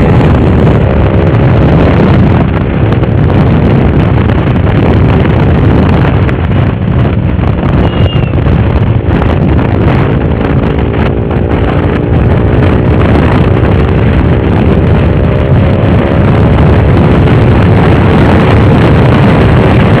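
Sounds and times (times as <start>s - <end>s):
motorcycle engine and exhaust: 0.0s - 20.0s
wind buffeting microphone: 0.0s - 20.0s.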